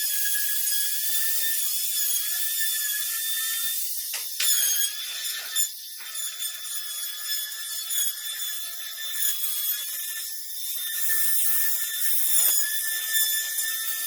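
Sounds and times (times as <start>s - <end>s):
electric router high-pitched whine: 0.0s - 14.0s.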